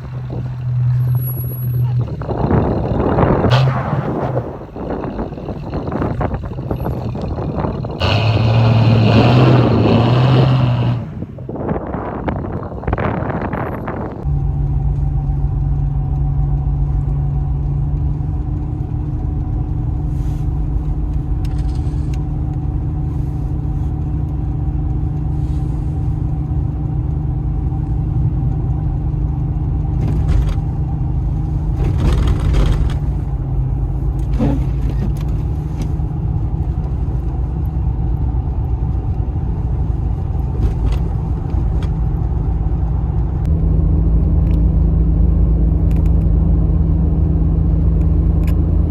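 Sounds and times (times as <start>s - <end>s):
car engine running: 0.0s - 48.9s.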